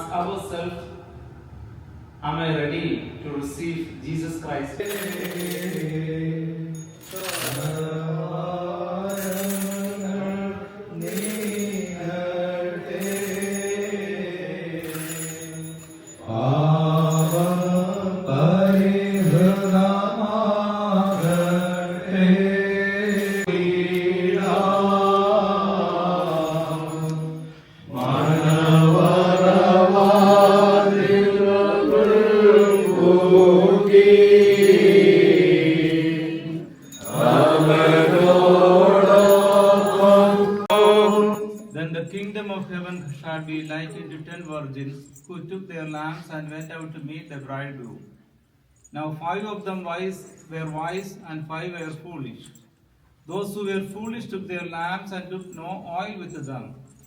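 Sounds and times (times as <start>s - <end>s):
liturgical chanting: 2.2s - 48.1s.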